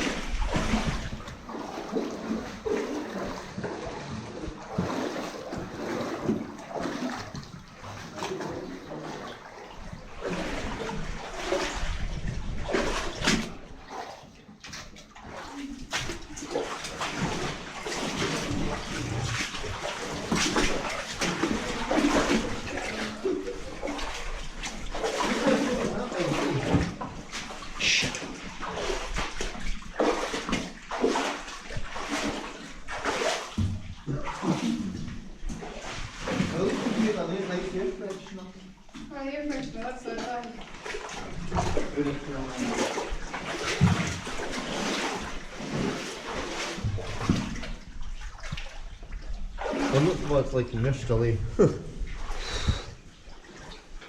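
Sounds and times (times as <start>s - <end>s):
feet wading through water: 0.0s - 54.0s.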